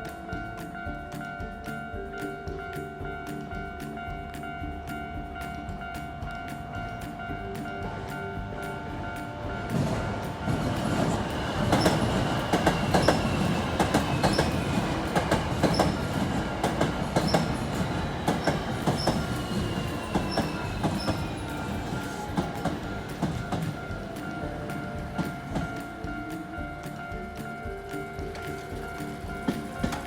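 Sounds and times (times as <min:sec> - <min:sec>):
train wheels clacking over rail joints: 0:00.0 - 0:30.0
train high whine: 0:03.6 - 0:30.0.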